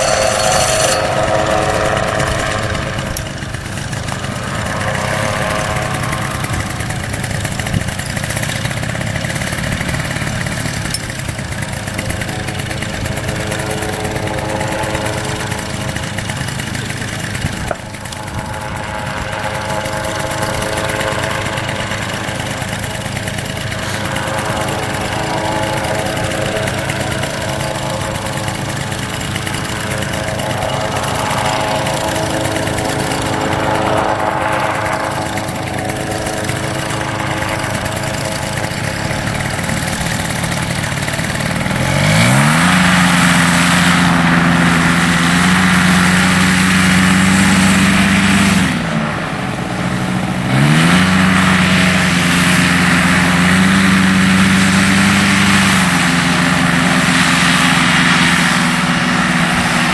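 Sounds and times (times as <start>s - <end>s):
paramotor engine idling and revving: 0.0s - 59.9s.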